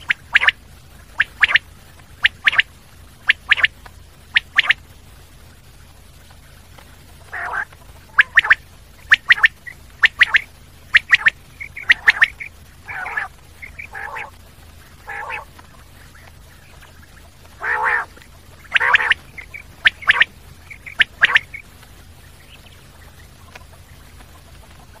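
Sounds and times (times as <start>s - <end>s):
quail calling: 0.0s - 4.8s, 6.8s - 25.0s
faint steady hum: 0.0s - 25.0s.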